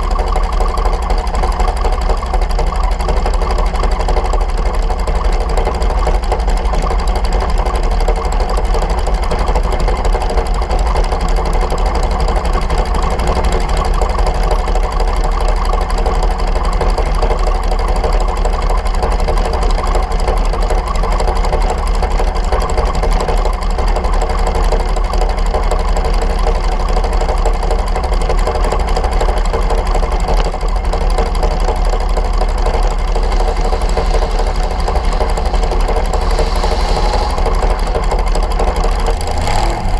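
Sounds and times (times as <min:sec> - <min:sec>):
dragster engine idling loudly: 0:00.0 - 0:39.9.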